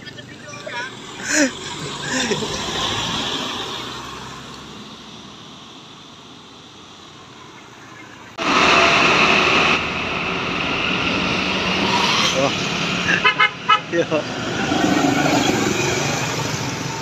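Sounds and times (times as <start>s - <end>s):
motorbikes passing: 0.0s - 5.2s, 7.1s - 17.0s
minibus driving away: 0.0s - 17.0s
traffic passing close by: 0.0s - 17.0s.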